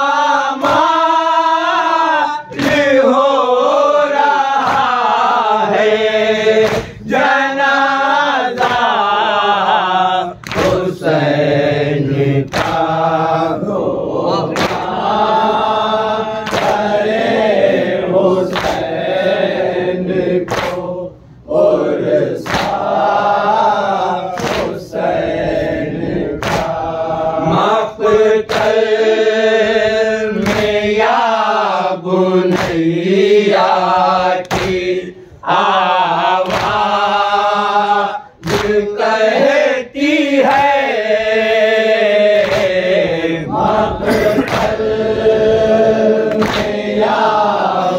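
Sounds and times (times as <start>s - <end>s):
lead reciter: 0.0s - 47.9s
men chanting in unison: 0.0s - 47.9s.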